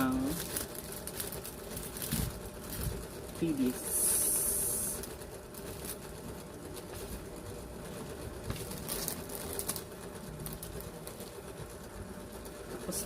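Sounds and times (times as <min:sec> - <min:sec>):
plastic packaging crinkling: 0:00.0 - 0:11.8
steady low hum: 0:00.0 - 0:13.0.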